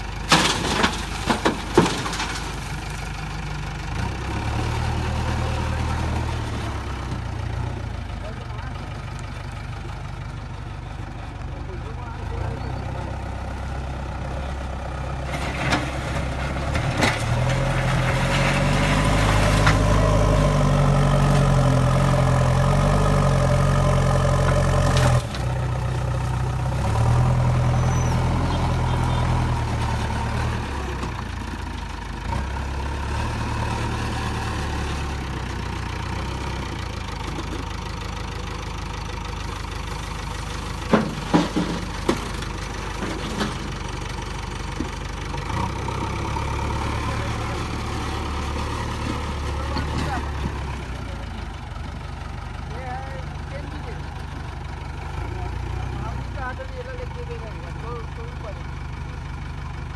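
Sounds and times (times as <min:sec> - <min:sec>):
backhoe diesel engine revving: 0:00.0 - 0:59.9.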